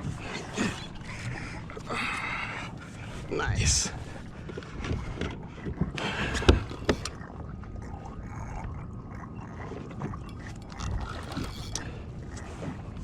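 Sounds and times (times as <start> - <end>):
water sloshing around kayak: 0.0 - 13.0.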